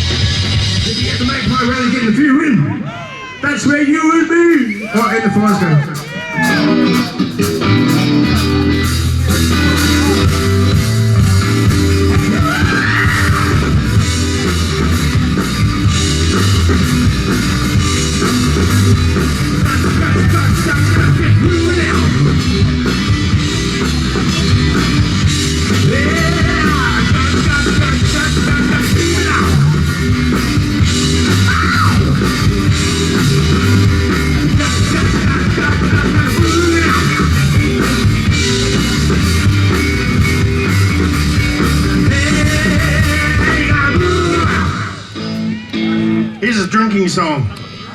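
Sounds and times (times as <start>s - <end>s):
drum kit: 0.0s - 2.2s, 4.5s - 46.2s
heavy bass guitar: 0.0s - 2.3s, 4.3s - 47.9s
electric guitar: 4.6s - 47.9s.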